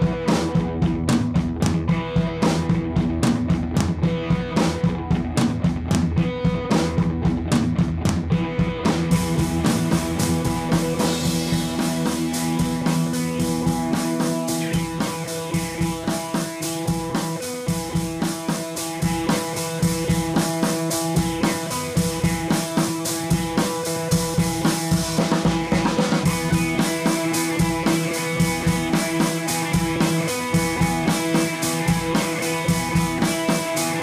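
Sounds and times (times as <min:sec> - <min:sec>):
drum kit: 0:00.0 - 0:34.0
guitar: 0:00.0 - 0:34.0.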